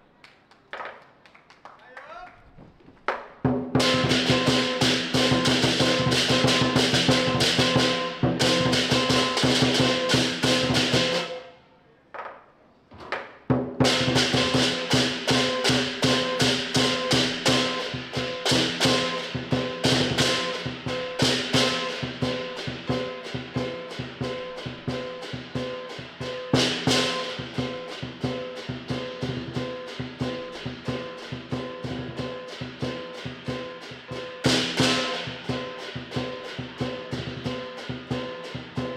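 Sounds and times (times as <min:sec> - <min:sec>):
big drum beats: 0:03.4 - 0:11.4, 0:13.5 - 0:38.9
cymbals clashing: 0:03.8 - 0:11.5, 0:13.8 - 0:38.9.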